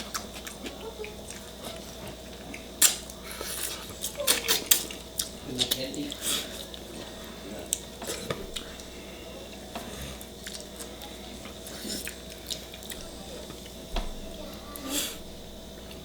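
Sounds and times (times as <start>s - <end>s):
chewing and mouth noises: 0.0s - 13.8s.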